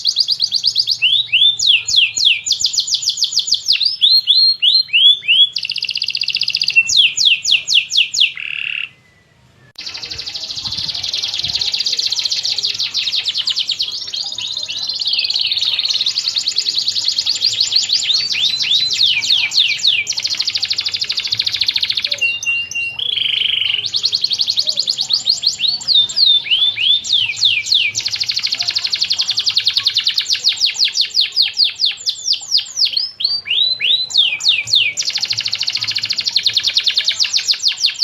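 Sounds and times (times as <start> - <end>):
canary singing: 0.0 - 38.0.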